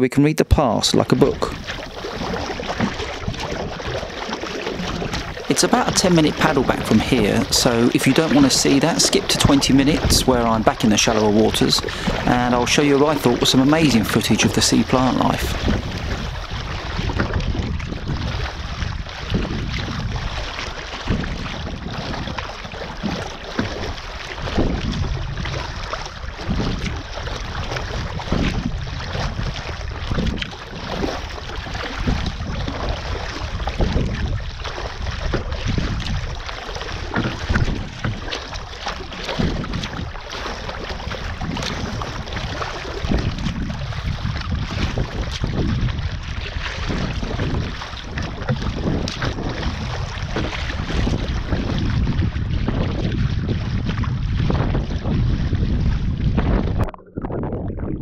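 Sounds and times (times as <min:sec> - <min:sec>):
waves slapping hull: 0:00.0 - 0:58.0
paddle strokes splashing: 0:00.7 - 0:57.3
wind rumbling on microphone: 0:00.8 - 0:58.0.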